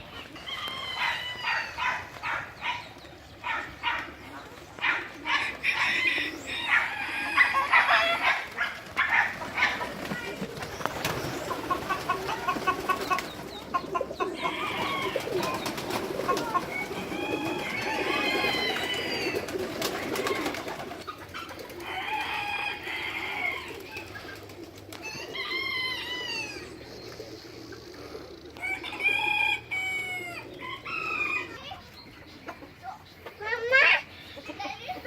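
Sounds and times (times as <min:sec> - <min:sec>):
poultry clucking: 0:00.0 - 0:35.0
poultry drawn-out calls: 0:00.0 - 0:35.0.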